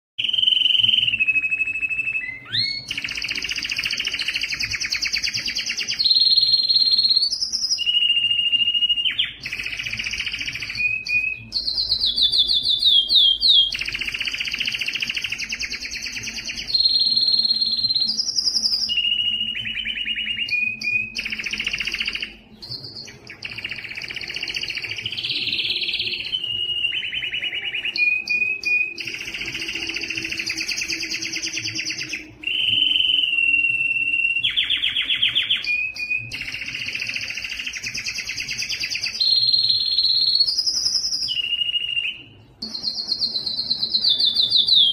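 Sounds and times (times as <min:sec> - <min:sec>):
canary singing trills and whistles: 0:00.2 - 0:44.9.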